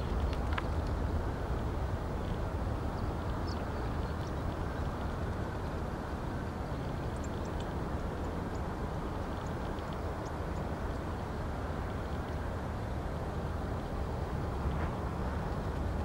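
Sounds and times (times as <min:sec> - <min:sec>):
distant airliner rumble: 0:00.0 - 0:16.0.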